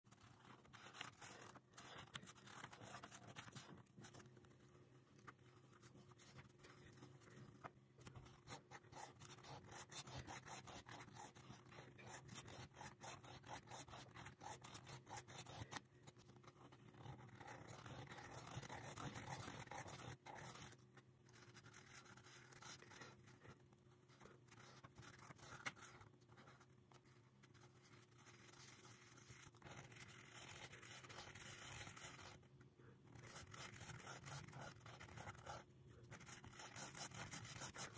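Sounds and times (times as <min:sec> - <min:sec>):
marker scratching on paper: 0:00.2 - 0:04.3, 0:05.6 - 0:32.4, 0:33.1 - 0:37.9.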